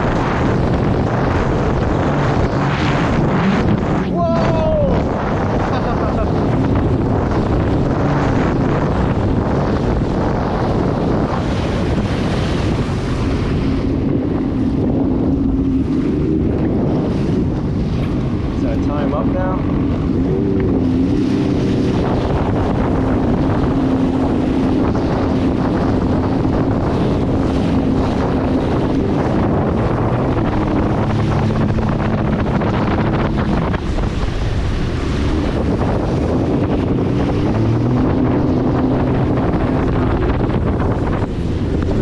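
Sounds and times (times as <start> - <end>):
watercraft engine running: 0.0 - 42.0
wind buffeting microphone: 0.0 - 42.0.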